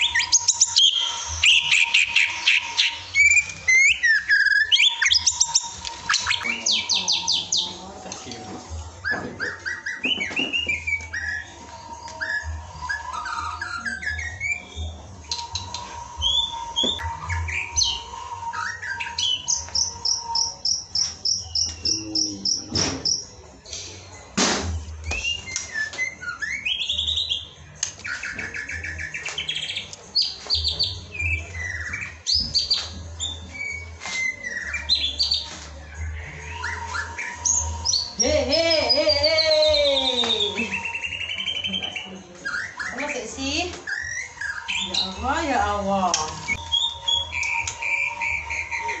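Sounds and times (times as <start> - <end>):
songbird singing: 0.0 - 23.8, 25.1 - 49.0.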